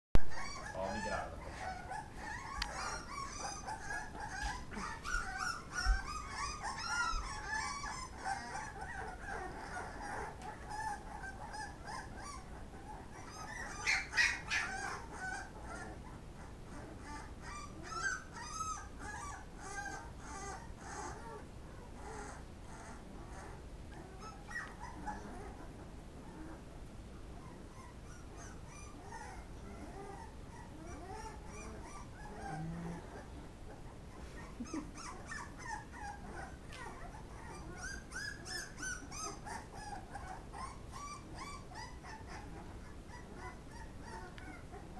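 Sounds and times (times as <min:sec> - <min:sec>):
puppies whimpering and squealing: 0:00.2 - 0:44.9.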